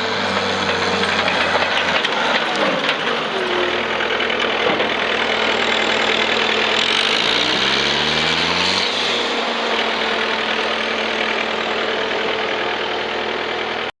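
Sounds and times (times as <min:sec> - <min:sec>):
diesel engine revving: 0:00.0 - 0:13.9.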